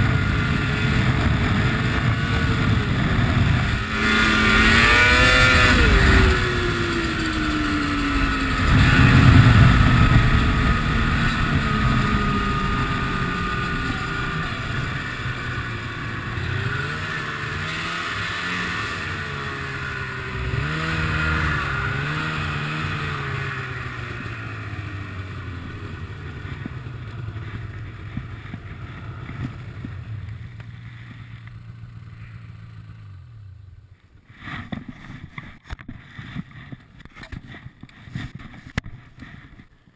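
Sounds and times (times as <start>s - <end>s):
snowmobile engine revving and idling: 0.0s - 35.1s.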